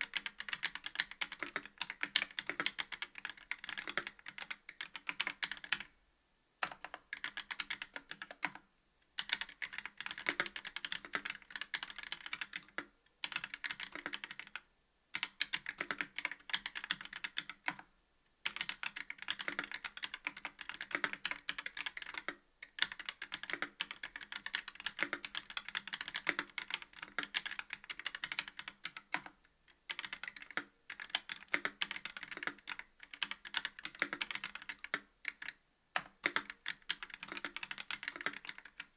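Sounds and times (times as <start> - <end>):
mechanical keyboard typing: 0.0 - 5.9, 6.6 - 8.6, 9.2 - 14.6, 15.2 - 38.9.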